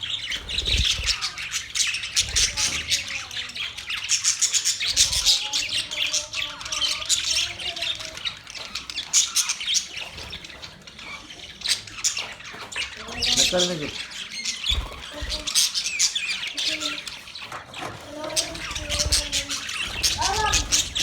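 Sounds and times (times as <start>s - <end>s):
cage birds chirping and squawking: 0.0s - 21.0s.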